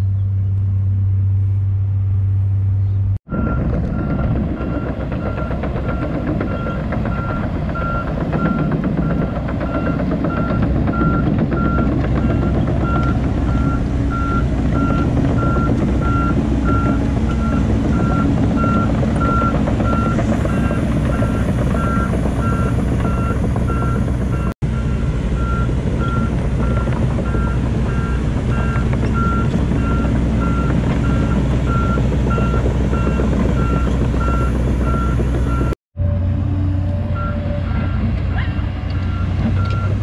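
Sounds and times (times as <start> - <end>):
excavator diesel engine running: 3.3 - 40.0.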